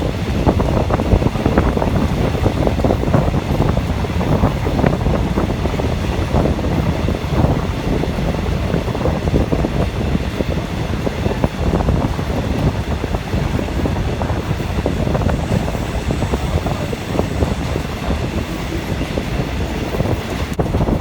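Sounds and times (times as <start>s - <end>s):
train running noise: 0.0s - 21.0s
wind buffeting microphone: 0.0s - 21.0s.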